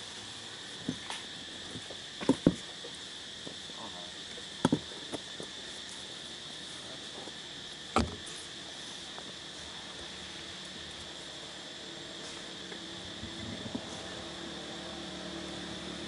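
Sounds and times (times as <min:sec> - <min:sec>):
chorus of insects: 0:00.0 - 0:16.0.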